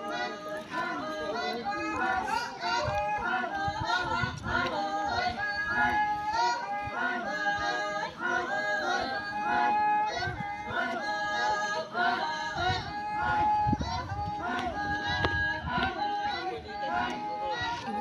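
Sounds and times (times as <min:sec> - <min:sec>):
women singing in chorus: 0:00.0 - 0:18.0.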